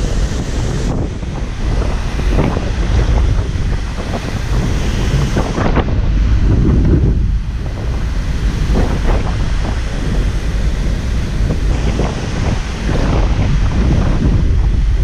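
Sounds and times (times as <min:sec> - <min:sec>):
rushing sea: 0:00.0 - 0:15.0
strong wind buffeting microphone: 0:00.0 - 0:15.0.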